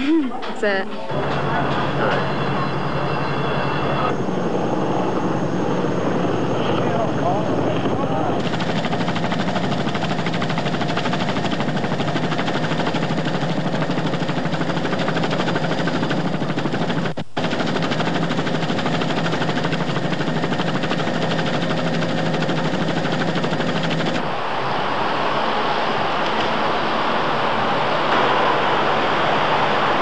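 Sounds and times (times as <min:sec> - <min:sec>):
constant hum: 0:00.0 - 0:30.0
helicopter rotor chop: 0:01.0 - 0:30.0.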